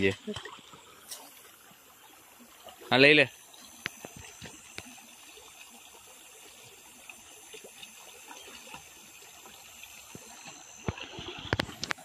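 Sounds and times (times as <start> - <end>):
faint trickling water: 0.0 - 12.0.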